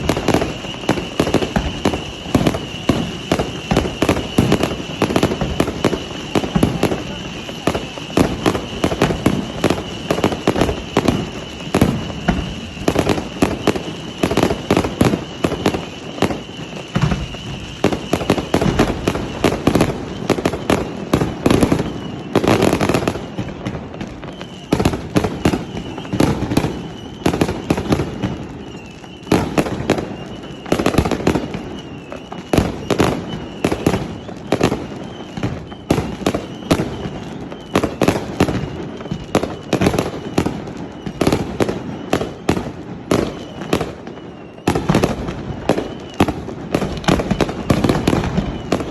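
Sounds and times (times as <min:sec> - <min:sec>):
fireworks bursting: 0:00.0 - 0:48.9
fireworks crackling: 0:00.0 - 0:48.9.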